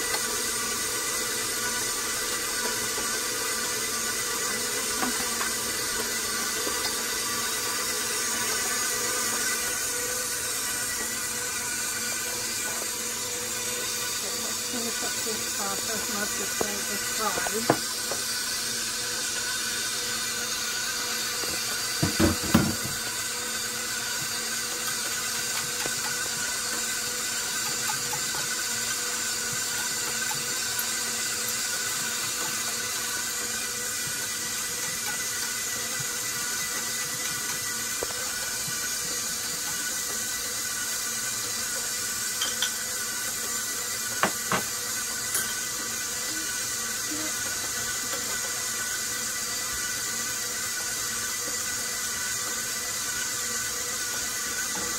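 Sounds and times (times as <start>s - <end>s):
stand mixer motor whining: 0.0s - 54.9s.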